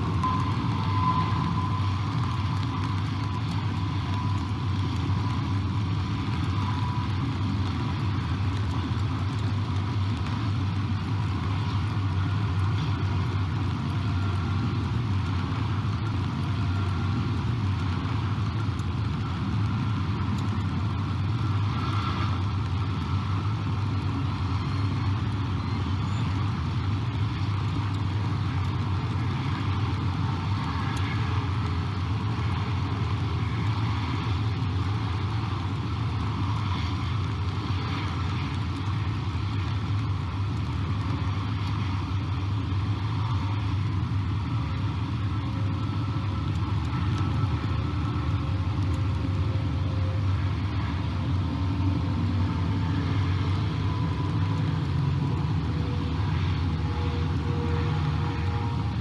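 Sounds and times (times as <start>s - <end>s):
distant road traffic rumble: 0.0s - 59.0s
light rain hiss: 0.0s - 59.0s.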